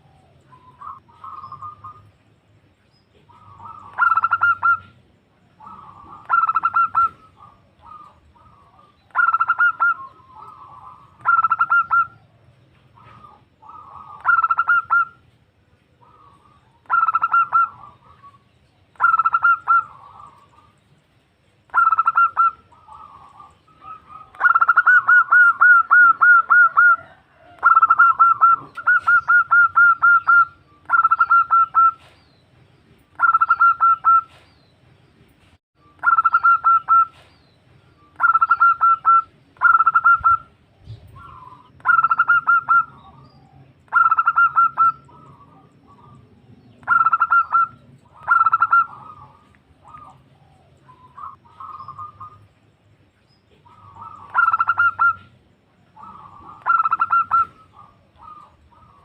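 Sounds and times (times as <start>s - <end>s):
dove cooing: 0.0s - 2.2s, 3.1s - 15.3s, 16.0s - 20.8s, 21.7s - 32.2s, 33.1s - 34.4s, 36.0s - 37.4s, 38.1s - 52.6s, 53.5s - 59.0s.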